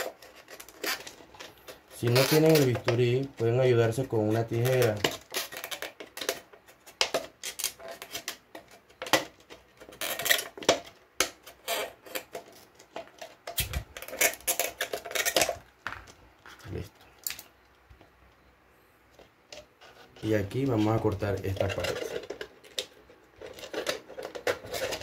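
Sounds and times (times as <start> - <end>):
plastic bottle crinkling: 0.0 - 17.6, 19.9 - 25.0.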